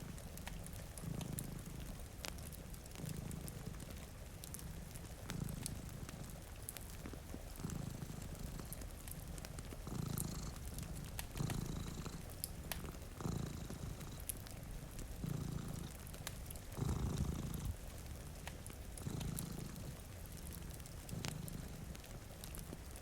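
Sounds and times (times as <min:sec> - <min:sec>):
cat purring: 0:00.0 - 0:23.0
rain hissing: 0:00.0 - 0:23.0
wood fire crackling: 0:00.0 - 0:23.0.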